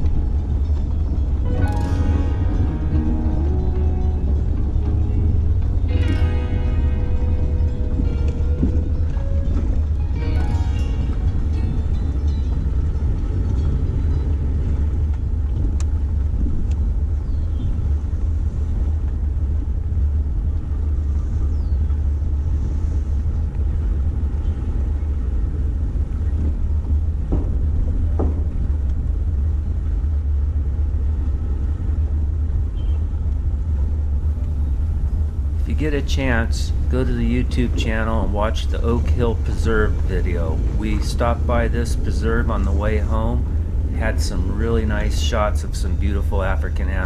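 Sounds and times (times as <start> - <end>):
vehicle driving slowly: 0.0 - 47.0.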